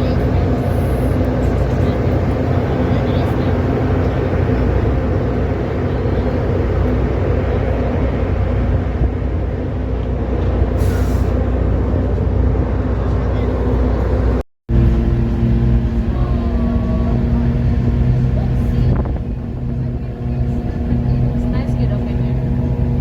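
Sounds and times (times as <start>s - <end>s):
ferry engines droning: 0.0s - 23.0s.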